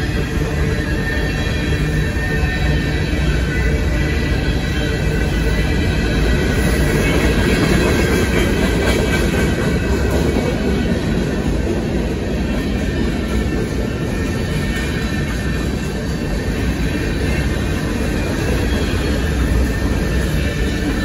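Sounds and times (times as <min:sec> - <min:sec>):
freight train wheels rolling: 0:00.0 - 0:21.0.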